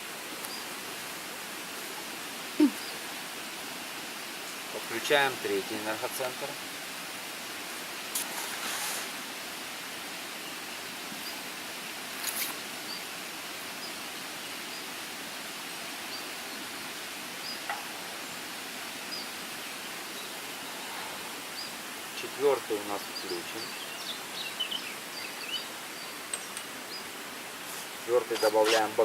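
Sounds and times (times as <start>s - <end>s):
outdoor ambient hiss: 0.0s - 29.0s.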